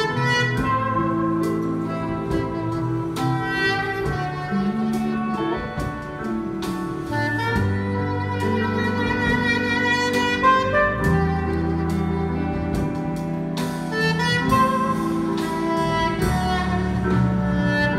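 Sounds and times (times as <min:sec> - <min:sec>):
drum kit with cymbals: 0:00.0 - 0:17.9
electric bass: 0:00.0 - 0:17.9
electric guitar: 0:00.0 - 0:17.9
keyboard: 0:00.0 - 0:17.9
soprano saxophone melody: 0:00.0 - 0:17.9.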